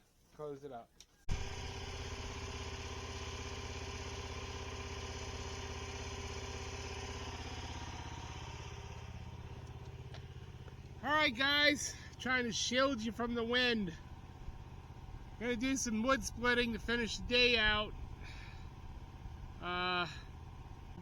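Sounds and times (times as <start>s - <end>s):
gas engine idling: 1.3s - 21.0s.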